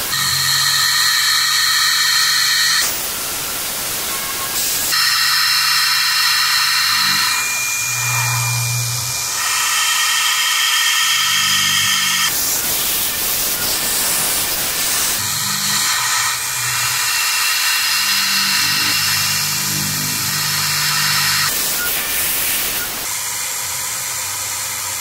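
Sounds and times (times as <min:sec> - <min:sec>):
milling machine spindle whine: 0:00.0 - 0:25.0.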